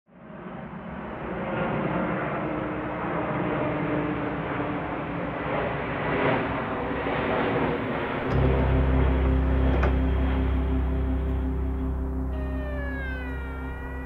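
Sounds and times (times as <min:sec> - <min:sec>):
jet airliner flying overhead: 0:00.1 - 0:14.0.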